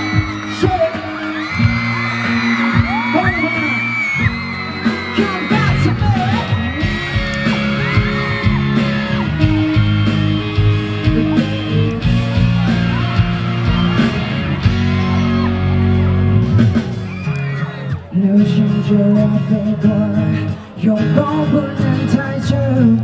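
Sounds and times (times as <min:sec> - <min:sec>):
crowd cheering and screaming: 0:00.0 - 0:23.0
live band playing: 0:00.0 - 0:23.0.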